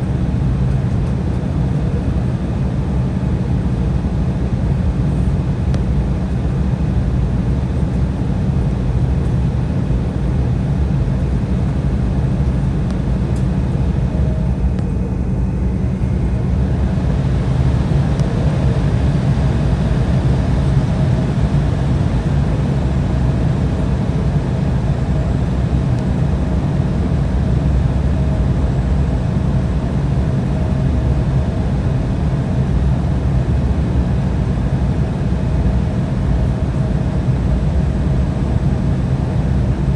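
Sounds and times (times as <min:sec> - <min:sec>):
aircraft cabin low rumble: 0:00.0 - 0:39.9
faint engine whine: 0:00.0 - 0:39.9.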